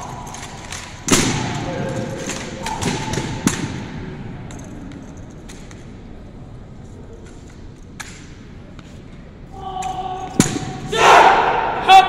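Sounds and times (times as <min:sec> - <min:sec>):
background murmur: 0:00.0 - 0:12.0.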